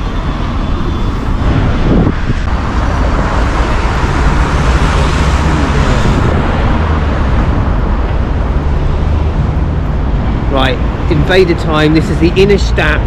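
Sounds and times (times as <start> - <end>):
road traffic rumble: 0.0 - 13.0
vehicle passing close: 1.3 - 13.0.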